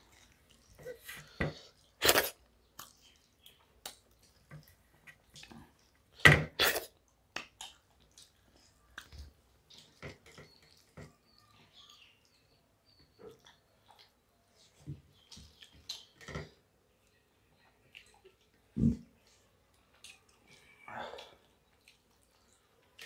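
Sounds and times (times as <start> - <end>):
wet chewing and lip-smacking: 0.0 - 16.2, 17.0 - 23.0
fingers squishing rice on plates: 0.0 - 23.0.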